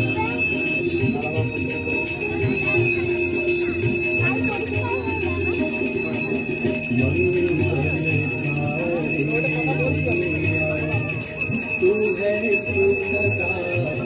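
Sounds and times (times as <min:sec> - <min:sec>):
hand bell ringing: 0:00.0 - 0:14.0
voices: 0:00.0 - 0:14.0.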